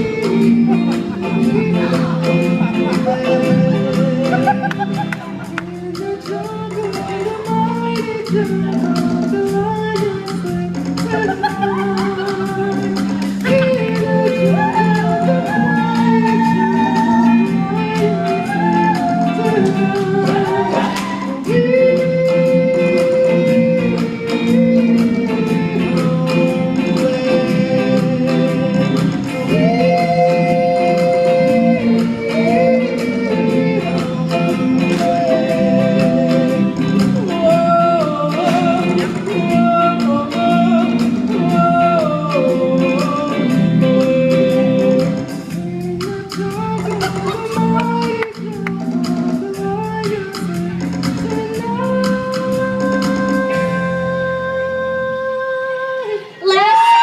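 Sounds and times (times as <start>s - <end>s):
steady drum beat: 0.0s - 53.9s
live pop band: 0.0s - 57.0s.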